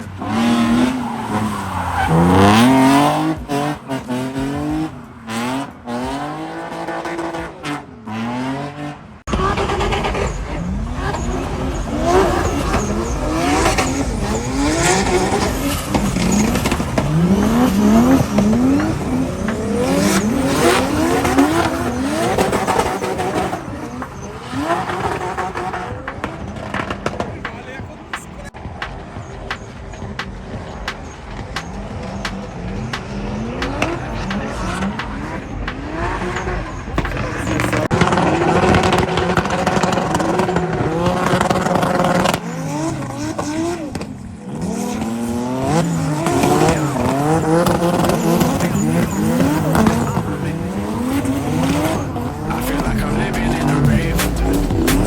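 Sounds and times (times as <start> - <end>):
tyre squeal: 0.0 - 5.4, 9.3 - 26.0, 31.0 - 55.0
car engines revving: 0.0 - 55.0.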